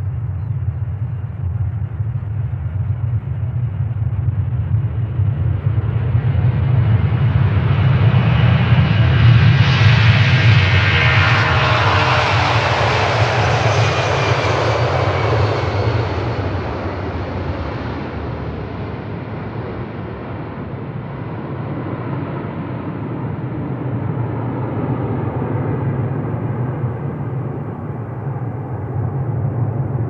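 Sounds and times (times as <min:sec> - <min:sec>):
jet airliner engines passing: 0:00.0 - 0:30.0.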